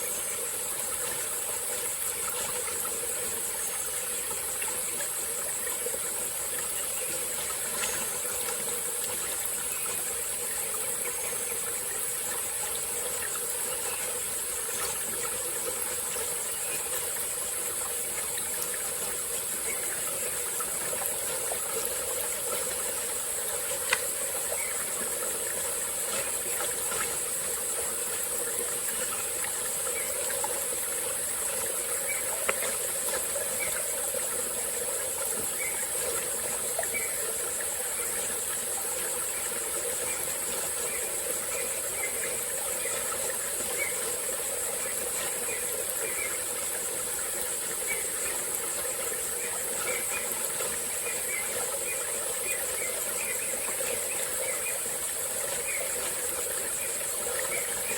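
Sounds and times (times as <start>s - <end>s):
small stream running: 0.0s - 57.9s.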